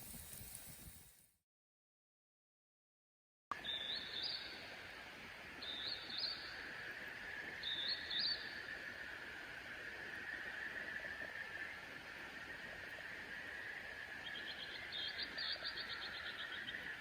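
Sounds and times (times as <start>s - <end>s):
steady outdoor hiss: 0.0s - 1.2s, 3.6s - 17.0s.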